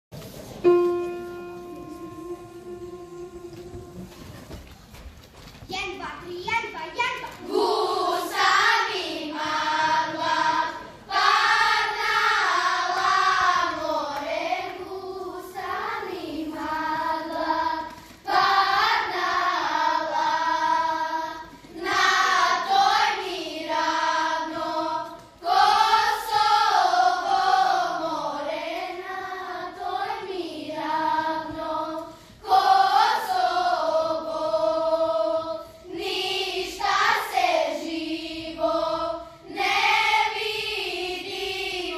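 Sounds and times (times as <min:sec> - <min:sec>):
children's choir singing: 0:00.2 - 0:05.0, 0:07.3 - 0:41.9.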